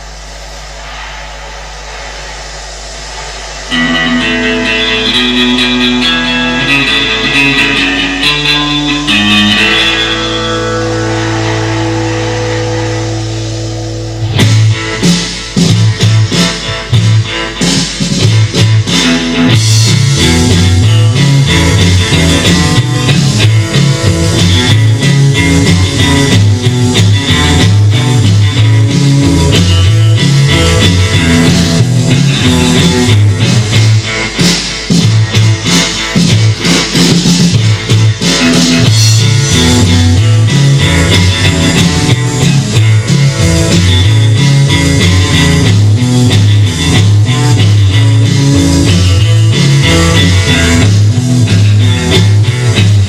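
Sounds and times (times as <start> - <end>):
bass line: 0.0 - 53.0
rockabilly electric guitar melody: 3.6 - 53.0.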